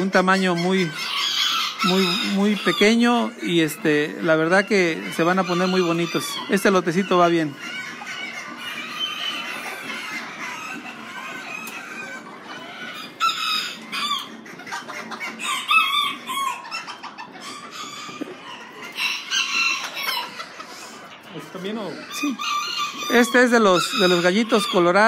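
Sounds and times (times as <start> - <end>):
hens clucking: 0.0 - 25.0
roosters crowing: 0.0 - 25.0.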